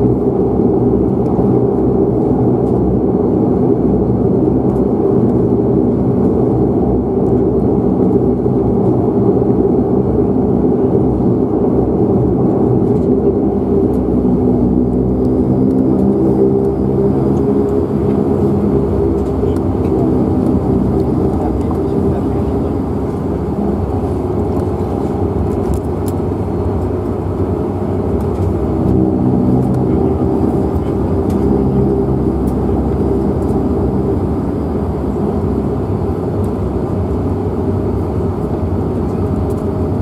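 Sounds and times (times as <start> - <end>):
turboprop engine drone: 0.0 - 40.0.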